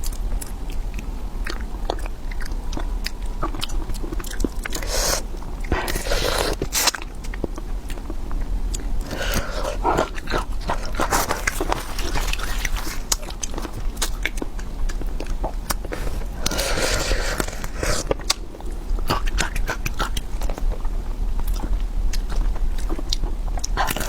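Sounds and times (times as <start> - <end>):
person chewing and biting: 0.0 - 24.0
steady low hum: 0.0 - 24.0.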